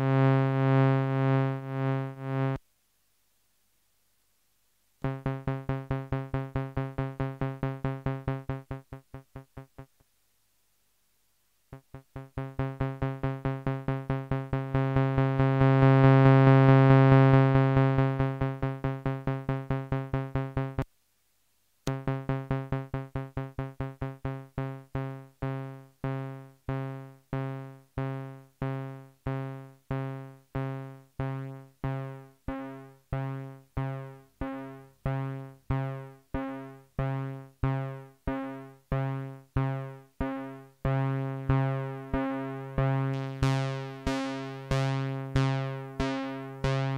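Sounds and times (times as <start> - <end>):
buzzy synthesizer notes: 5.0 - 9.9, 11.8 - 20.8, 21.9 - 46.9.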